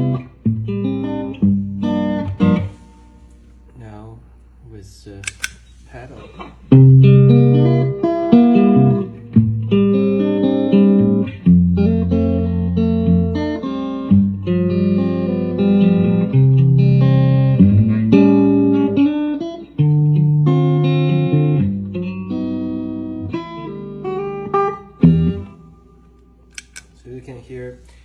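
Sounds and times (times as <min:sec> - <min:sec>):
clean electric guitar: 0:00.0 - 0:03.8, 0:05.4 - 0:28.0.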